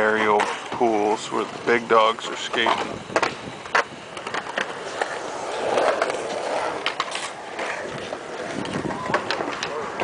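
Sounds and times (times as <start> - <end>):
skateboard clacks: 0.0 - 1.0, 2.3 - 10.0
skateboard wheels rolling on concrete: 0.0 - 10.0.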